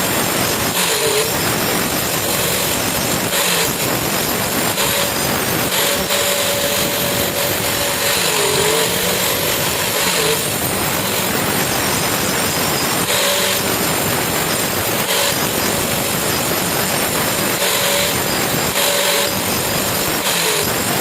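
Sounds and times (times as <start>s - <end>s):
power tool grinding metal: 0.0s - 21.0s.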